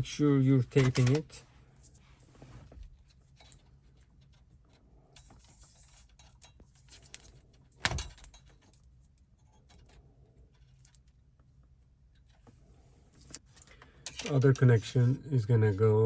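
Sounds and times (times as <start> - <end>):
wiring clicks and rustling: 0.6 - 14.9.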